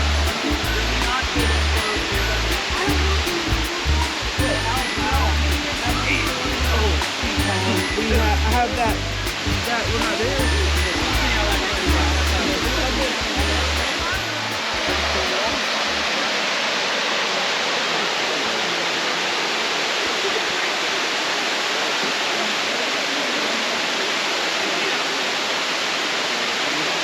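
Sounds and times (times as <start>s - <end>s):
waterfall splashing over rock: 0.0s - 27.0s.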